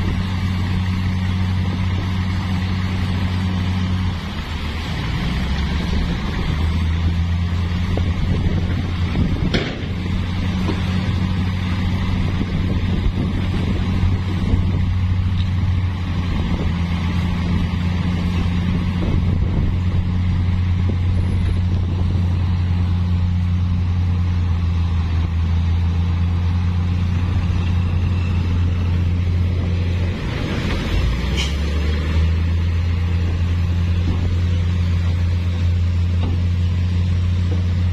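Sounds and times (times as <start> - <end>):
diesel engine droning: 0.0 - 37.9.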